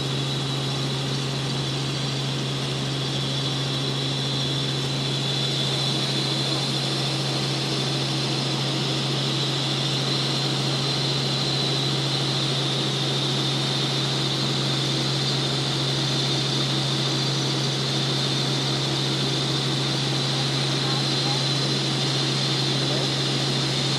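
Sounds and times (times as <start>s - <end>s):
helicopter cabin drone: 0.0s - 23.9s.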